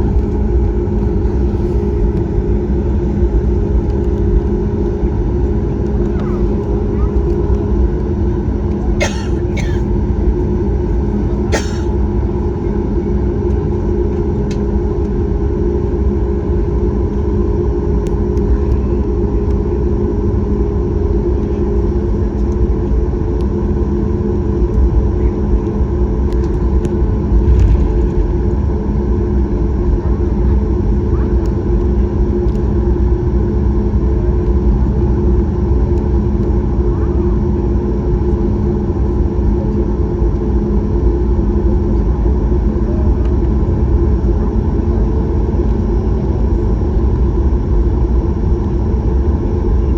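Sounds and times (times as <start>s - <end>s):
airplane cabin rumble and hum: 0.0s - 49.9s.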